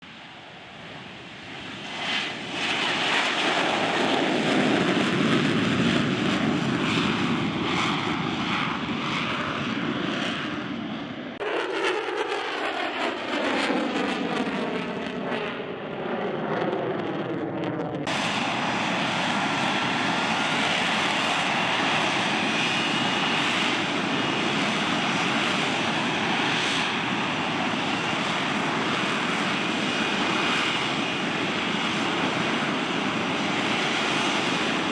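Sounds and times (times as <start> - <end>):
jet engine rush: 0.0 - 34.9
jet passing by: 0.1 - 34.9.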